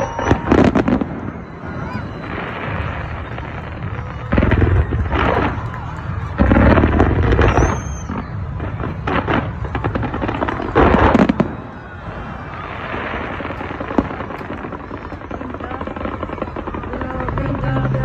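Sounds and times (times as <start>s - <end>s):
fireworks bursting and crackling: 0.0s - 18.0s
sharp firework crack: 0.0s - 18.0s.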